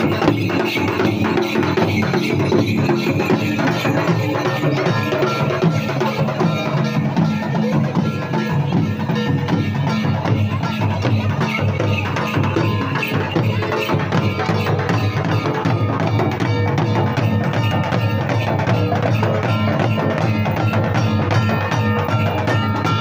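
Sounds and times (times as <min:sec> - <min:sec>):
clacking percussion: 0:00.0 - 0:23.0
fast hand-drumming on barrel drums: 0:00.0 - 0:23.0.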